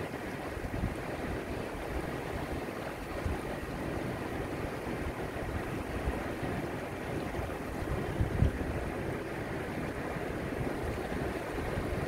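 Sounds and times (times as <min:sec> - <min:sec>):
sea water washing over rocks: 0:00.0 - 0:12.0.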